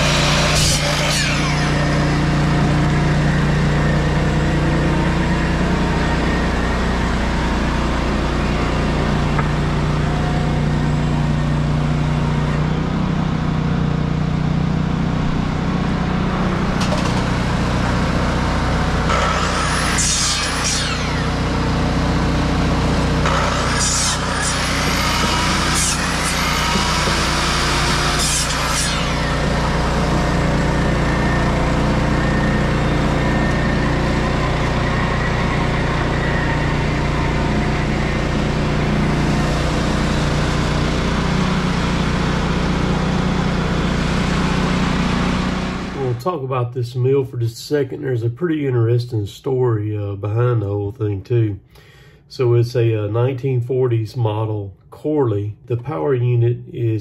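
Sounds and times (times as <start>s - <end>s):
sawmill clattering and whining: 0.0s - 46.2s
diesel engine running: 0.0s - 46.5s.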